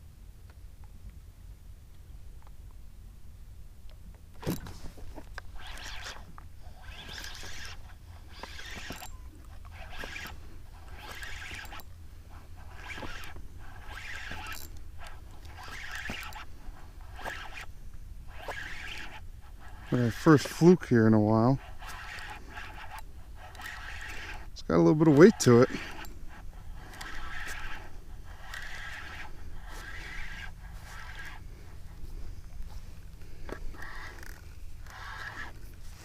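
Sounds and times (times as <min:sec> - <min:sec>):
fishing reel cranking: 0:04.4 - 0:35.8.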